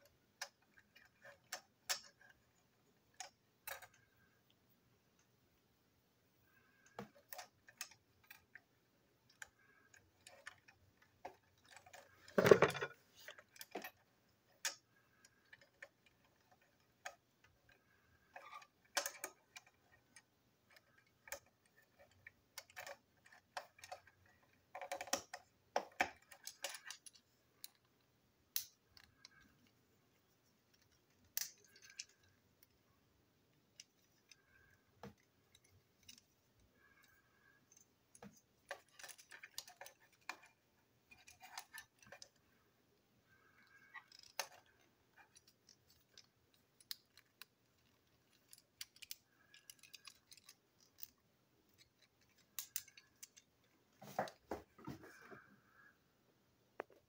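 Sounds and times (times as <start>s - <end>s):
plastic toy parts clicking: 0.0s - 4.3s, 6.6s - 29.8s, 30.6s - 32.8s, 33.4s - 42.6s, 43.3s - 53.7s.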